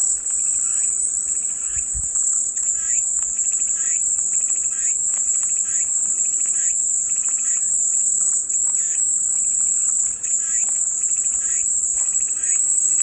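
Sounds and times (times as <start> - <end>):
cicadas droning: 0.0 - 13.0
faint short insect calls: 0.0 - 13.0.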